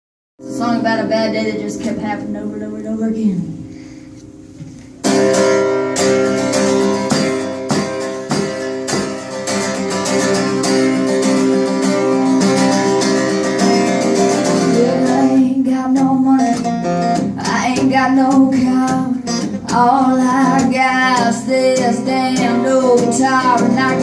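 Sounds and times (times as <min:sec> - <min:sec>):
acoustic guitar strumming: 0:00.4 - 0:24.0.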